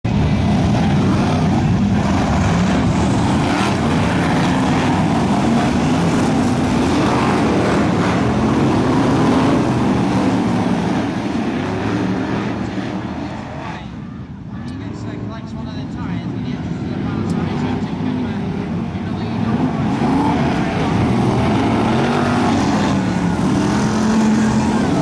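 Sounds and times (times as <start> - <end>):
racing car engines roaring: 0.0 - 25.0.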